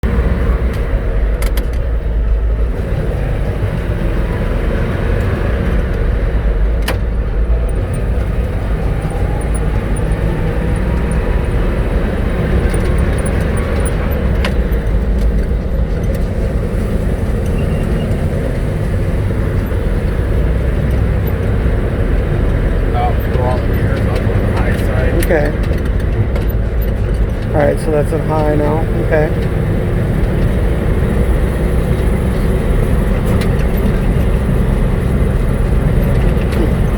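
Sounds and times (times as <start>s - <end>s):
road noise: 0.0s - 36.9s
truck engine rumbling: 0.0s - 36.9s.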